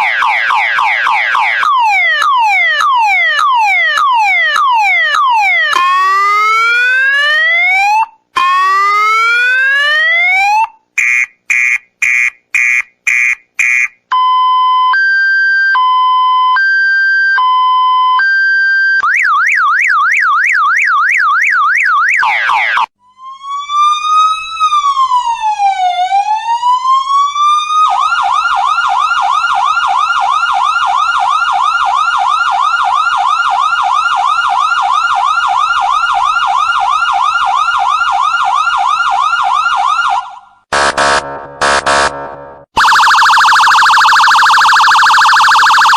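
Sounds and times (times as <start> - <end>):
electronic emergency siren: 0.0 - 45.9.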